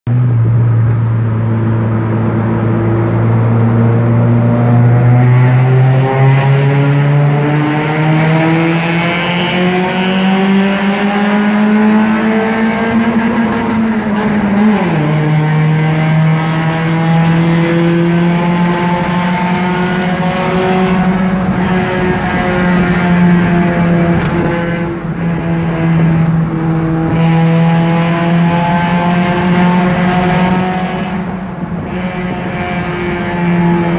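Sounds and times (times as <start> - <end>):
car engine accelerating: 0.1 - 33.9.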